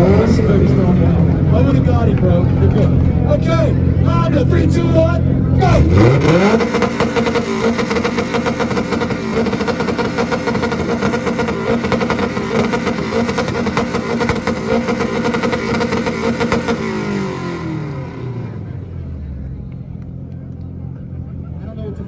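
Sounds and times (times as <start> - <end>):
car engine on rev limiter: 0.0 - 21.9.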